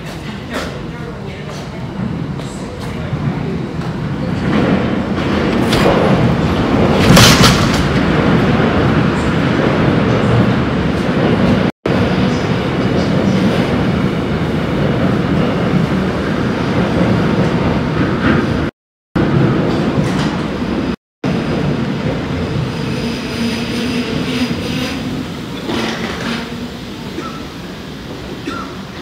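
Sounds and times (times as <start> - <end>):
subway train rumbling in tunnel: 0.0 - 29.0.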